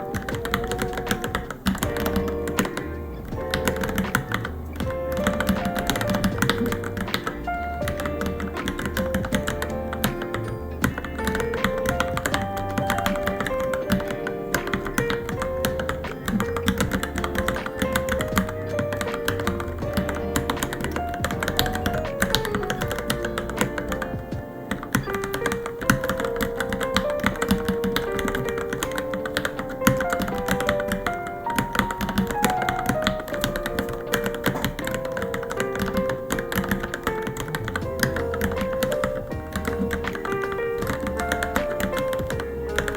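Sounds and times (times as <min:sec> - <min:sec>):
background music with melody: 0:00.0 - 0:42.9
fast keyboard typing: 0:00.0 - 0:42.9.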